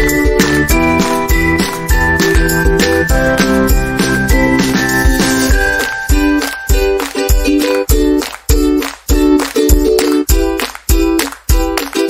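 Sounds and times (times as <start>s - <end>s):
upbeat music with steady beat: 0.0s - 12.0s.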